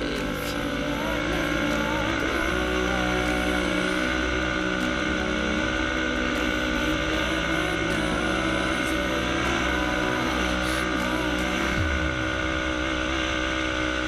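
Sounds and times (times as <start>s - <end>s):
quad engine running steadily: 0.0s - 14.0s.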